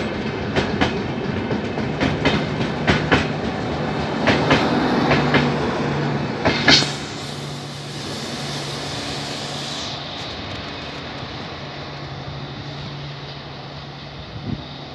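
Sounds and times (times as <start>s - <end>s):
train wheels clattering over joints: 0.0s - 12.1s
train rumble and hum: 0.0s - 14.9s.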